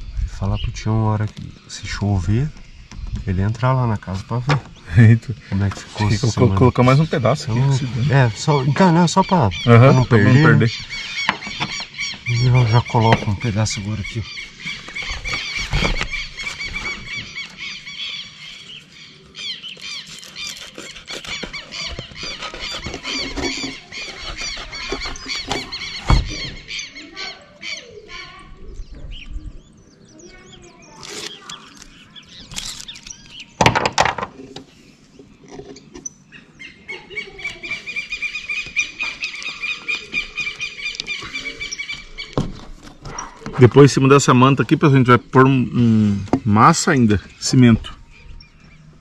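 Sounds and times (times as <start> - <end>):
birds squealing chirps: 0.0 - 49.0.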